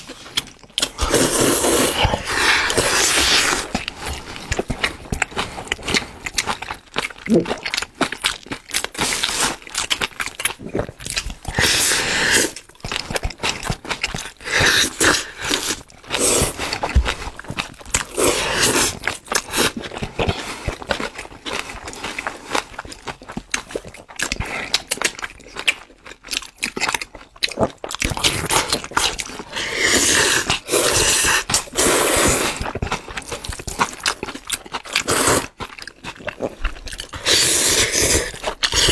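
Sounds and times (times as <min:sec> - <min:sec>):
noodles being slurped: 0:00.0 - 0:21.4, 0:27.6 - 0:38.9
people chewing and smacking: 0:00.0 - 0:38.9.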